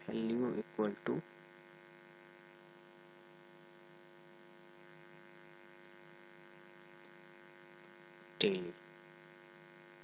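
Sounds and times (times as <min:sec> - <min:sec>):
faint electrical mains hum: 0:00.0 - 0:10.0.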